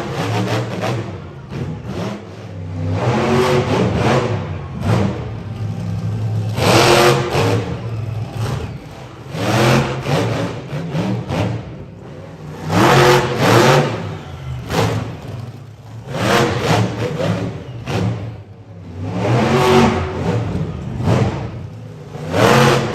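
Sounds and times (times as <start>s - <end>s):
monster truck engine revving: 0.0s - 22.9s.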